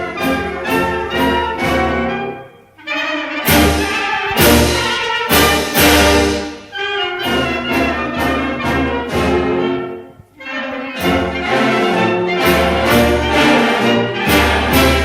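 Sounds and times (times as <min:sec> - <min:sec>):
orchestral brass chords: 0:00.0 - 0:15.0.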